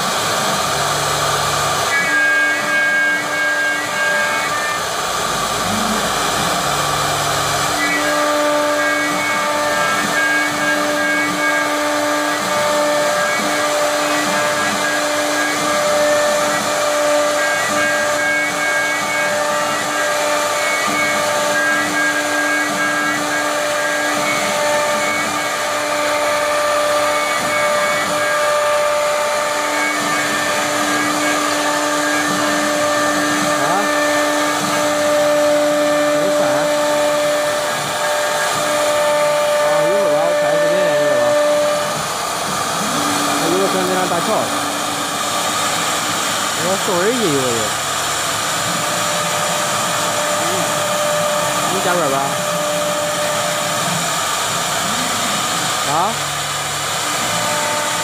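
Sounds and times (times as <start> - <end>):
cnc router spindle whine: 0.0 - 58.0.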